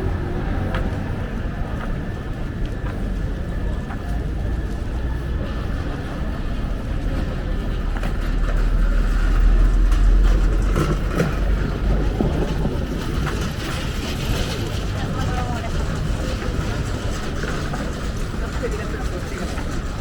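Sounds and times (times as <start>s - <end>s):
passing vehicle rumble: 0.0s - 20.0s
street noise: 0.0s - 20.0s.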